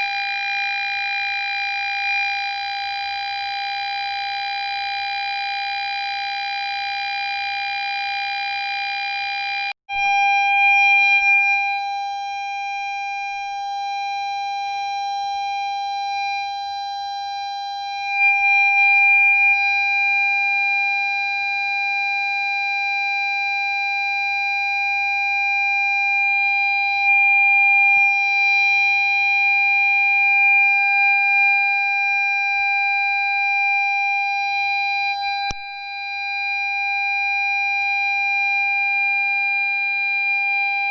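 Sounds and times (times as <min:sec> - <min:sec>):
parking sensor buzzer tone: 0:00.0 - 0:40.9.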